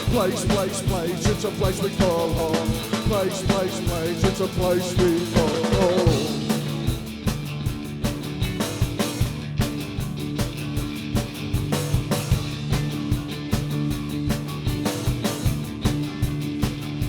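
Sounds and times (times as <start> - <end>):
drum kit beat: 0.0 - 17.0
rock band playing instrumental: 0.0 - 17.0.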